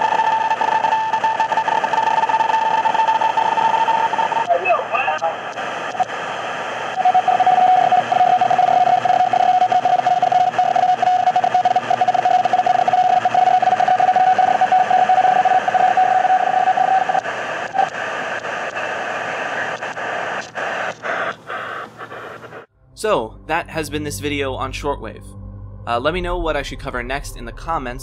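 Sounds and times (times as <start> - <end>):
radio static: 0.0 - 22.7
steady radio tone: 0.0 - 22.7.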